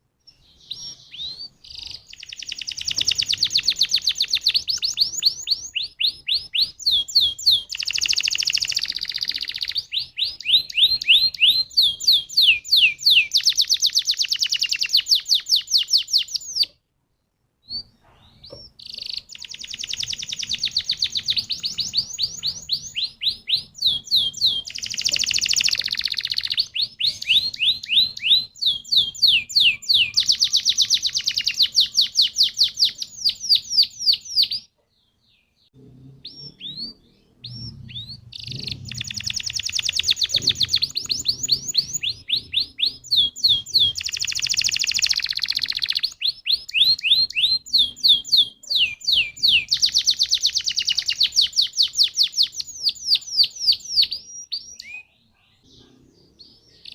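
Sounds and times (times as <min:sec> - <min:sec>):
canary singing trills: 0:00.2 - 0:16.8, 0:17.6 - 0:56.9.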